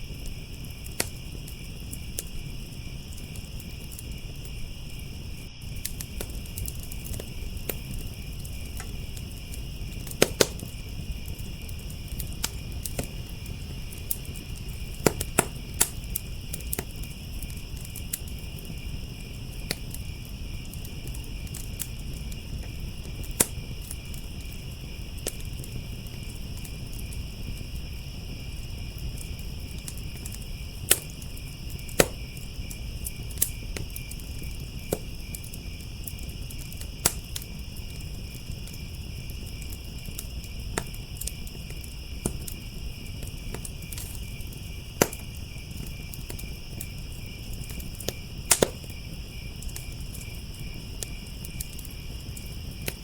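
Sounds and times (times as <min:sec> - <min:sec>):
crickets chirping: 0:00.0 - 0:53.0
wood fire crackling: 0:00.0 - 0:53.0.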